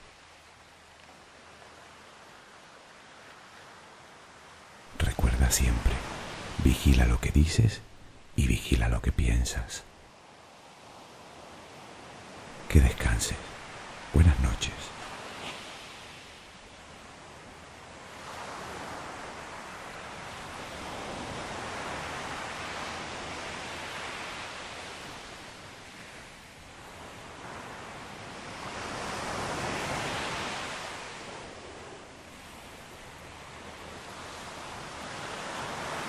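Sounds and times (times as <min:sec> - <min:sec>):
ocean waves washing onto shore: 0:00.0 - 0:36.0.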